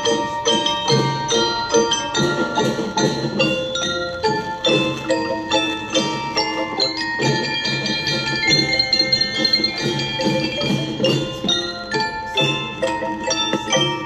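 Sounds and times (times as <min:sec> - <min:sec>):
bell lyre melody: 0:00.0 - 0:14.0
marching drum beat: 0:00.0 - 0:14.0.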